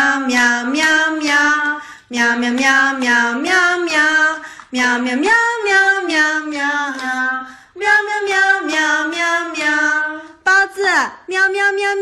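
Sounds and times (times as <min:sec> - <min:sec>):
high voice singing: 0:00.0 - 0:10.5.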